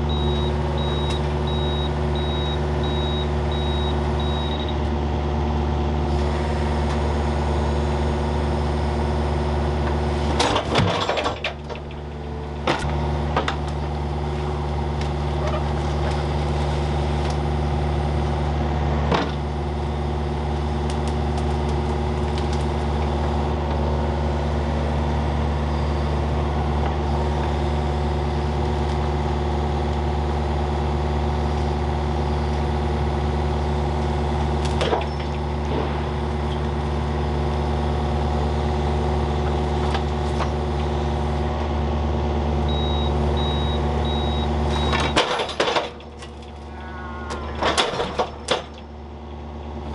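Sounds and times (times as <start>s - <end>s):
machine engine running: 0.0s - 49.9s.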